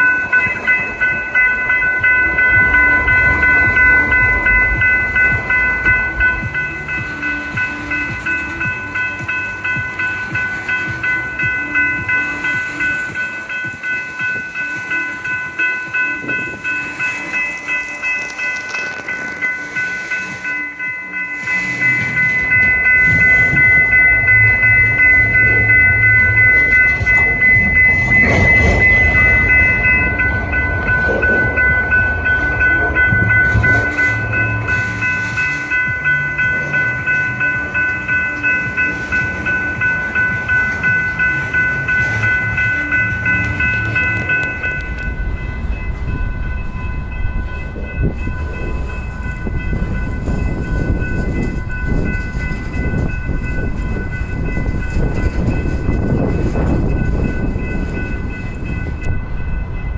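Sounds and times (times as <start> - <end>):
crossing warning bell ringing: 0.0 - 59.9
train wheels rumbling over rail joints: 0.0 - 59.9.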